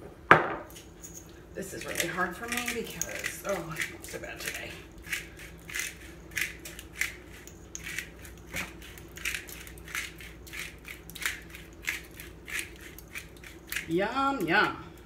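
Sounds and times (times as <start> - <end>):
pepper grinder crunching: 0.7 - 14.5.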